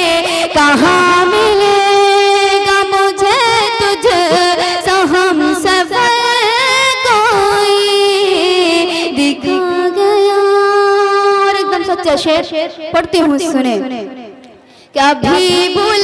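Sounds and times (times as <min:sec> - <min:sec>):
woman singing: 0:00.0 - 0:13.8, 0:15.0 - 0:16.0.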